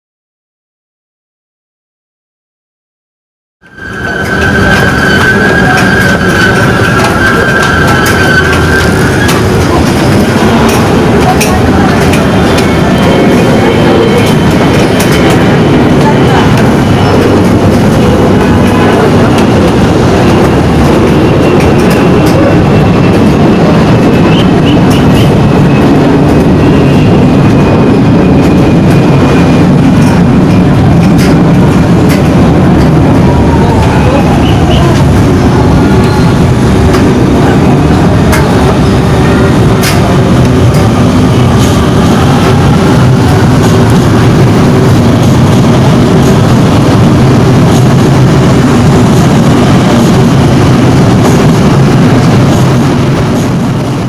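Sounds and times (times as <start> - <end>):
train rumbling: 3.6 - 54.0.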